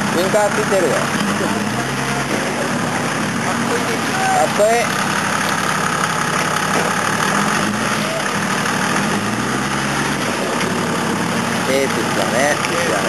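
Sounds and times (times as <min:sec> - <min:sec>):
truck engine under load: 0:00.0 - 0:13.0.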